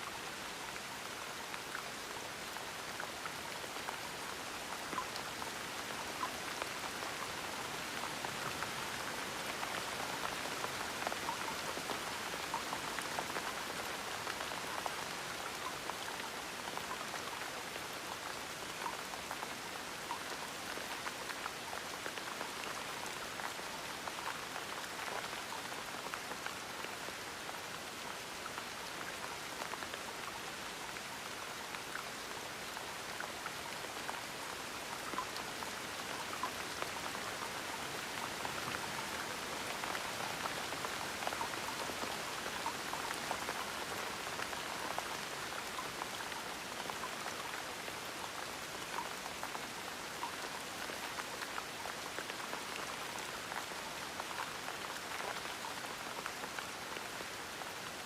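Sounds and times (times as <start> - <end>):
gentle rain patter: 0.0 - 58.0.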